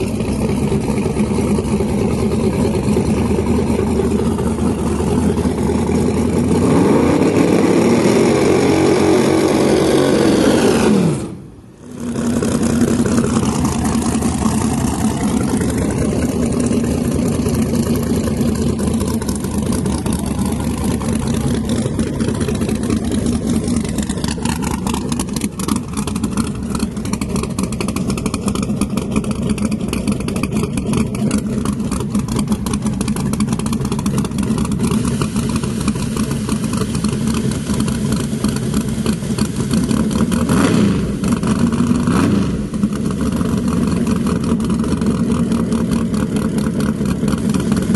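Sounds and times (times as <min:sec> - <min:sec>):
drag car engine droning: 0:00.0 - 0:47.9.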